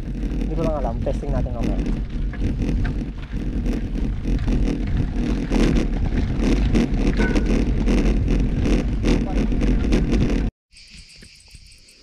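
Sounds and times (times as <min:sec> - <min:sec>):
bike tyre noise: 0:00.0 - 0:10.5
wind on microphone: 0:00.0 - 0:10.5.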